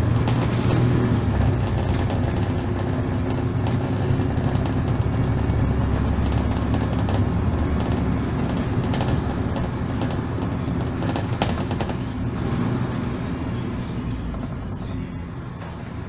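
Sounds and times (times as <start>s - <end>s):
diesel bus engine drone: 0.0s - 16.0s
interior rattles: 0.0s - 16.0s
road noise: 0.0s - 16.0s.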